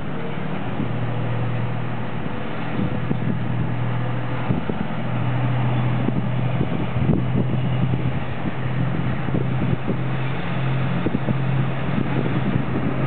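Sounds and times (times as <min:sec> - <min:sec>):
train rumbling over bridge: 0:00.0 - 0:13.0.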